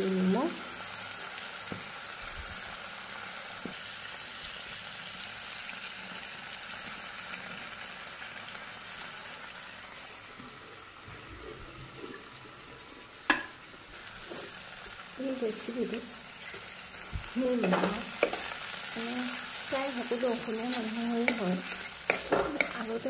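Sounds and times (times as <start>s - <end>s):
curry sizzling in a wok: 0.0s - 23.0s.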